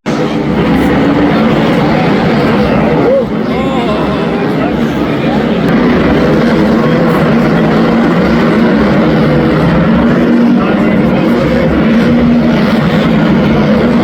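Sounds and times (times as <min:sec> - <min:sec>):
dirt bike engines racing: 0:00.1 - 0:14.0.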